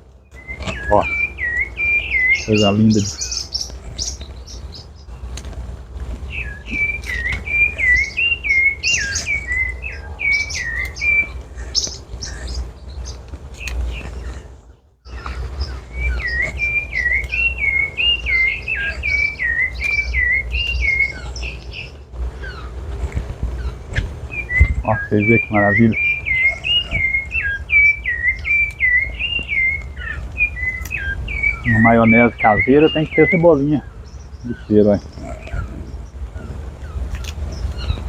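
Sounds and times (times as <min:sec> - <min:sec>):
thrush singing: 0:00.0 - 0:37.1
steady low rumble: 0:00.0 - 0:38.0.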